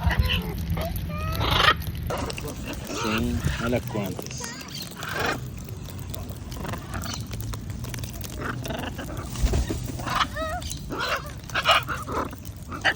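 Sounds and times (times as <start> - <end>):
macaws squawking: 1.3 - 7.4, 8.2 - 12.9.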